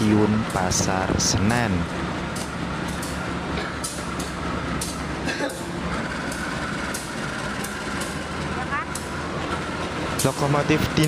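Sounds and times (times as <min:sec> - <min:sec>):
locomotive engine low drone: 0:00.0 - 0:11.0.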